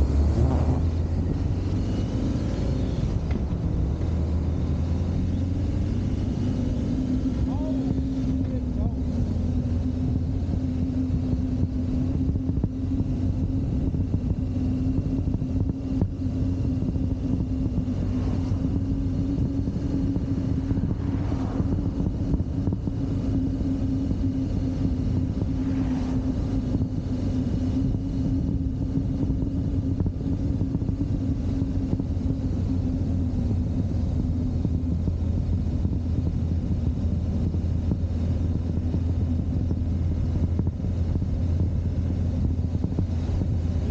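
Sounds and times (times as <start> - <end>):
motorcycle engine cruising: 0.0 - 43.9
road and wind noise: 0.0 - 43.9.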